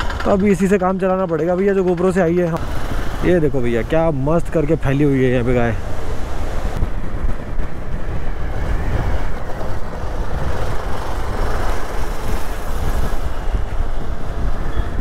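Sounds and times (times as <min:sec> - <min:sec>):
road and engine rumble: 0:00.0 - 0:15.0
wind rushing over microphone: 0:02.5 - 0:15.0.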